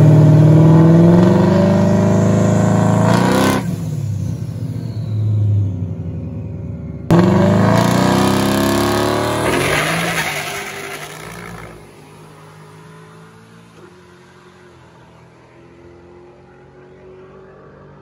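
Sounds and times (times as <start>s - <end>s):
car engine accelerating at full throttle: 0.0s - 5.7s, 6.9s - 18.0s.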